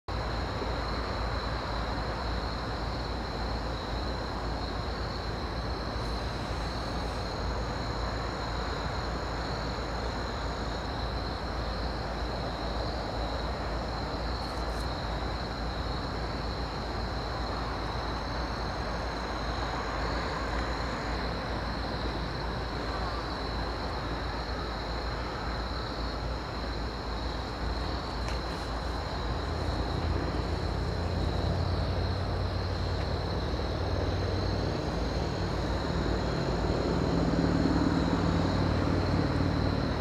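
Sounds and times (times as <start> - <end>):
distant diesel freight train rumble: 0.1 - 40.0
night insects trilling: 0.1 - 40.0.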